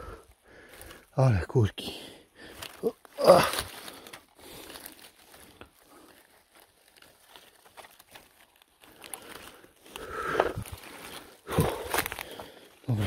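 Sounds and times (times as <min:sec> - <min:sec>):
rustling of dry leaves and twigs: 0:00.0 - 0:13.0.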